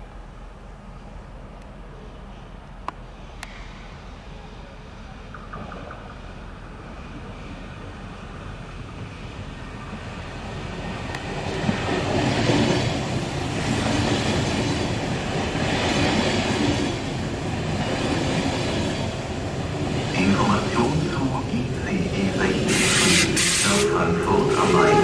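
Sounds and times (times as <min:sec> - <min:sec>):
train wheels rumbling on rails: 0:00.3 - 0:25.0.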